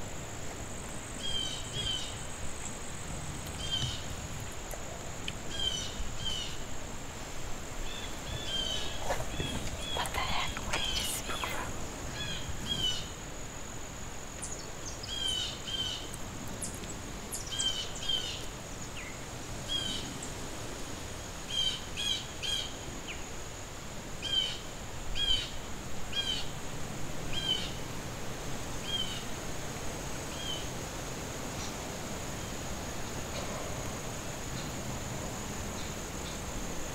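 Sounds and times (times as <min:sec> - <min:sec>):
insects droning: 0:00.0 - 0:36.9.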